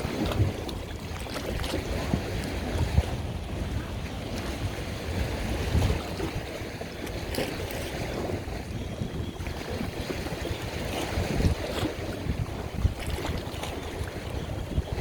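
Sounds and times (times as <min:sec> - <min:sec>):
waves washing: 0:00.0 - 0:15.0
wind buffeting the microphone: 0:00.0 - 0:15.0.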